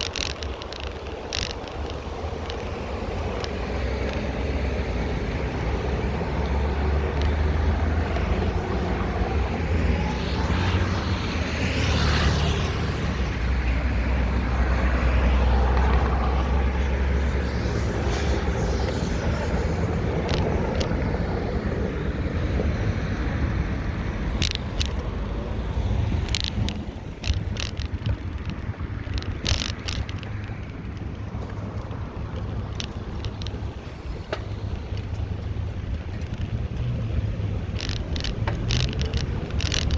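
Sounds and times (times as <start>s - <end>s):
rumble of passing cars: 0.0s - 39.9s.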